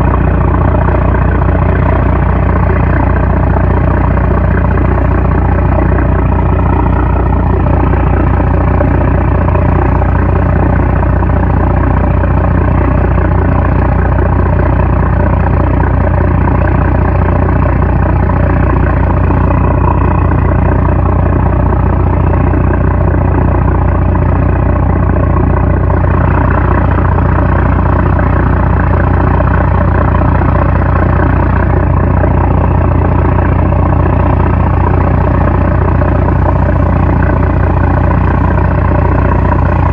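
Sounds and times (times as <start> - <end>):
boat diesel engine droning: 0.0 - 39.9.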